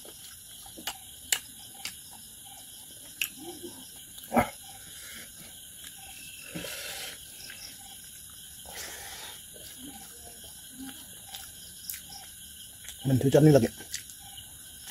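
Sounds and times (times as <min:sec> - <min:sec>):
man chewing with lip smacks: 0:00.0 - 0:04.3, 0:05.3 - 0:13.1, 0:13.7 - 0:14.9.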